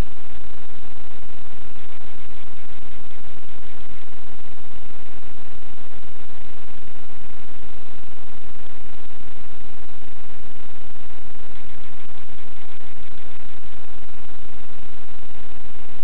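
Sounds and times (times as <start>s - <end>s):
faint buzz: 0.0s - 16.0s
loud steady hiss: 0.0s - 16.0s.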